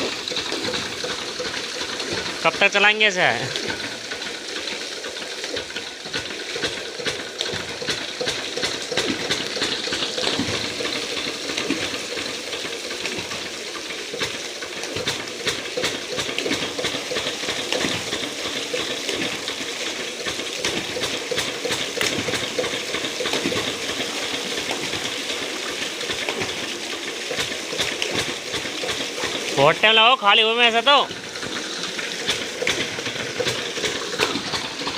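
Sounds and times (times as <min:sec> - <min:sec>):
water churning and splashing: 0:00.0 - 0:34.9.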